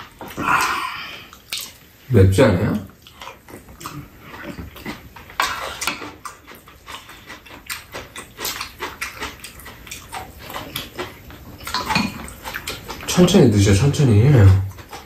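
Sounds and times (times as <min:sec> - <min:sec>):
wet chewing and lip-smacking: 0:00.0 - 0:02.1, 0:02.7 - 0:15.0.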